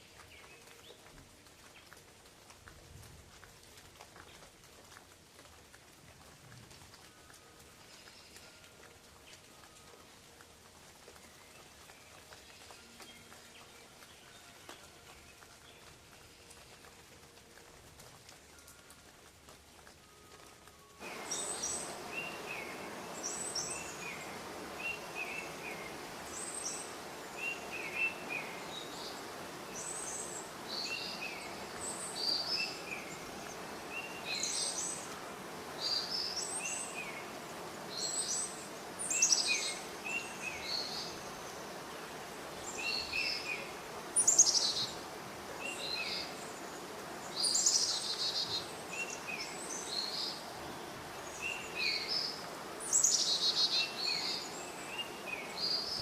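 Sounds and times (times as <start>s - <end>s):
faint background hiss: 0.0s - 56.0s
songbirds chirping: 0.0s - 56.0s
steady rain: 0.0s - 56.0s.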